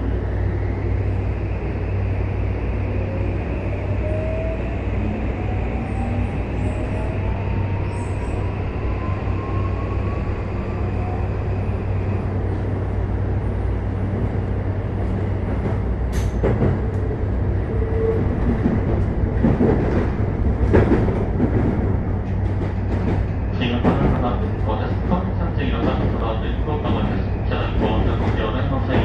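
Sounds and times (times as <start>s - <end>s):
train running gear rumble: 0.0s - 29.0s.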